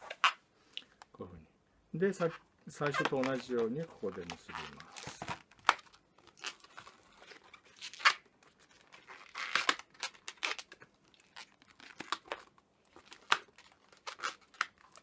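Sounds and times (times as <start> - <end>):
balloons squeaking and rubbing: 0.0 - 0.4, 2.1 - 15.0.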